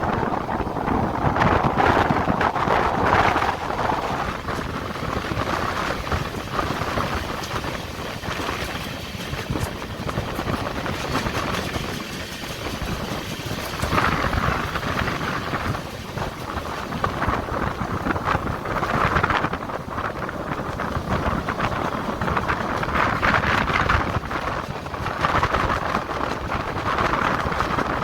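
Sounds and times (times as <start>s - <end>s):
moving train running noise: 0.0s - 28.0s
wind buffeting microphone: 0.0s - 28.0s.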